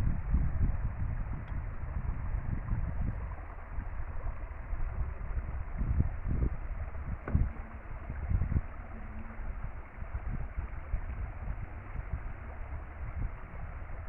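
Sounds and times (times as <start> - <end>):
low rumbles and thumps: 0.0 - 14.0.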